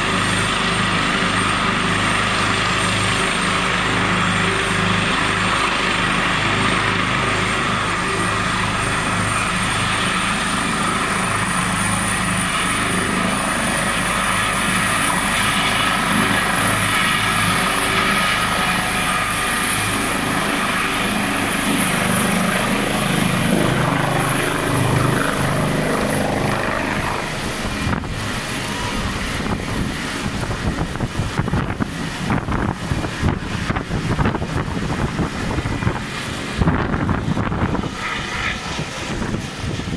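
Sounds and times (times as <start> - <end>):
helicopter rotor thrum: 0.0 - 39.9
helicopter turbine whine: 0.0 - 39.9
wind buffeting microphone: 0.0 - 39.9.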